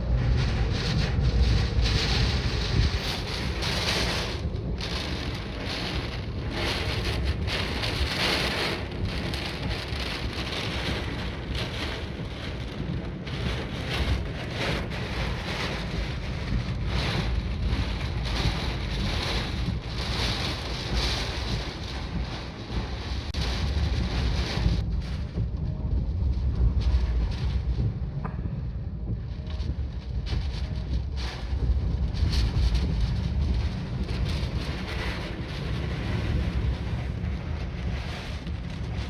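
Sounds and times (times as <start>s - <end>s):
gusting wind: 0.0s - 39.0s
rain: 0.0s - 39.0s
wind buffeting microphone: 0.0s - 39.0s.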